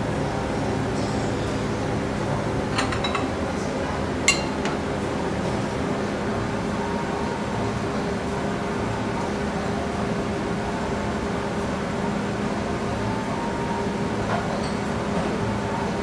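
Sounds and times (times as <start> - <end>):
kitchen machinery humming: 0.0 - 16.0.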